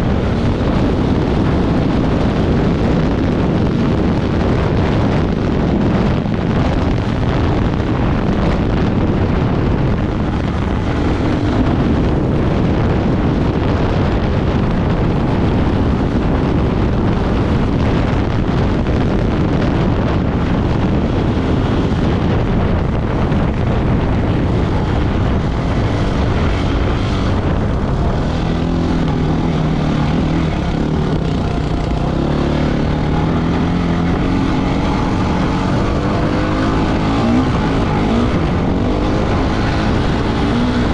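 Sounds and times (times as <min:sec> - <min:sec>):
heavy wind rush: 0:00.0 - 0:40.9
off-road motorcycle engine: 0:00.0 - 0:40.9.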